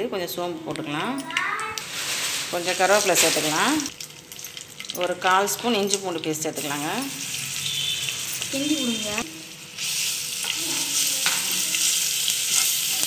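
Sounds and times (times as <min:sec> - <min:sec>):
crackles in oil: 0:01.6 - 0:13.0
paste sizzling in hot oil: 0:01.8 - 0:13.0.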